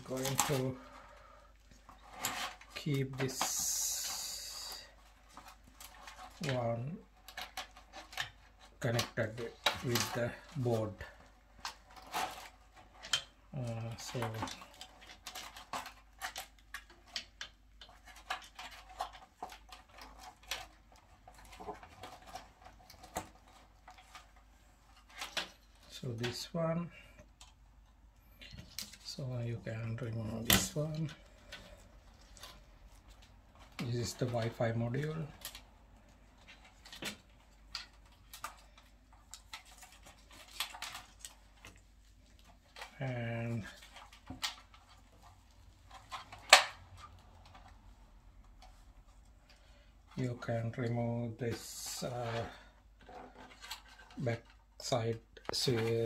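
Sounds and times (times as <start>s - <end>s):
light clicks and scratches: 0.0s - 56.0s.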